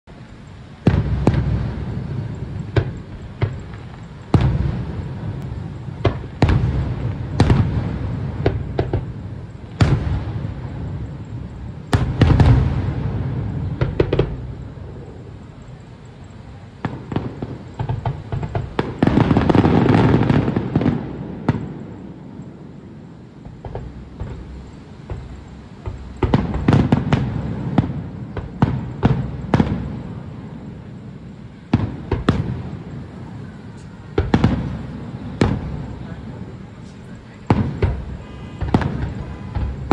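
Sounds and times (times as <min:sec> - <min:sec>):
firework crackle: 0:00.0 - 0:39.9
firework shells bursting: 0:00.1 - 0:39.9.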